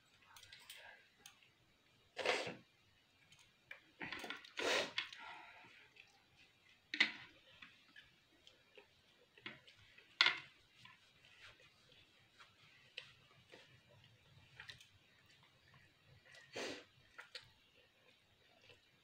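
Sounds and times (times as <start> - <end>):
chewing and mouth noises: 3.4 - 19.0.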